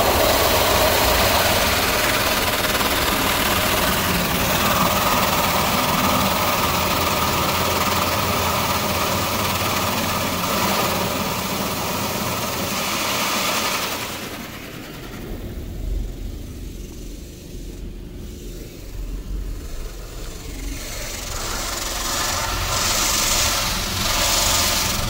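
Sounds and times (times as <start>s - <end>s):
dryer blowers rushing air: 0.0s - 25.0s.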